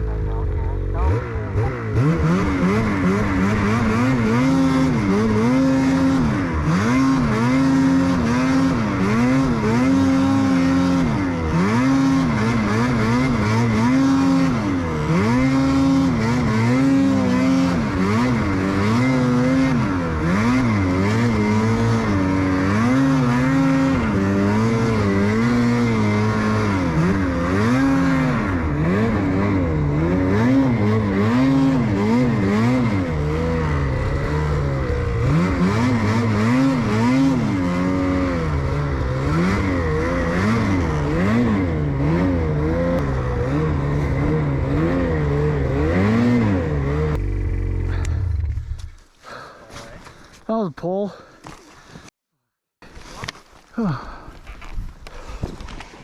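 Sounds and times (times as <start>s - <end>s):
snowmobile engine revving: 0.0s - 50.1s.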